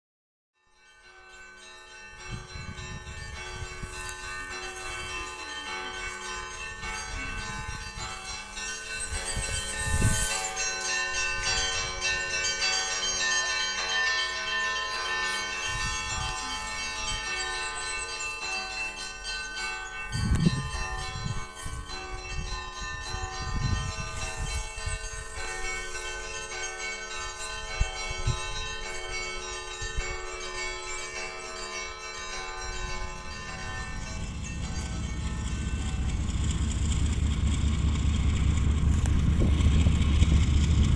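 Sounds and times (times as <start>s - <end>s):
church bells pealing: 0.6s - 40.9s.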